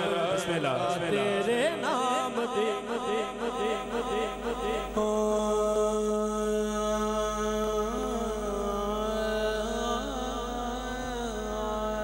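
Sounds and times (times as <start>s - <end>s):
man singing through loudspeakers: 0.0s - 12.0s.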